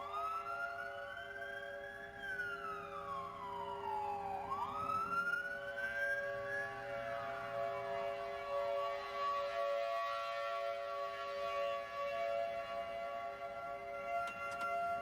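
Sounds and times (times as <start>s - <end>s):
tornado siren wailing: 0.0s - 15.0s.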